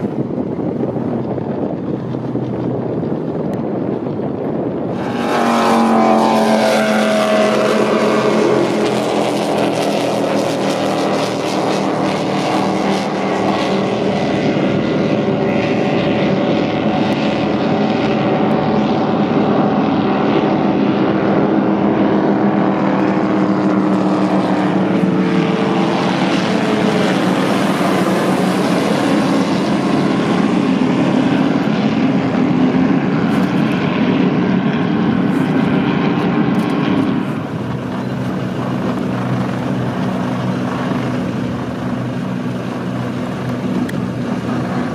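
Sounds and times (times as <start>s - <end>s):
powerboat engines roaring: 0.0s - 44.9s
wind: 0.0s - 44.9s.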